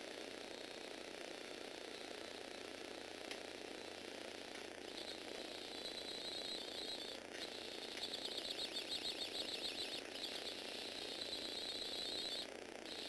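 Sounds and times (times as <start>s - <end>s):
small electric motor whining: 0.0s - 13.0s.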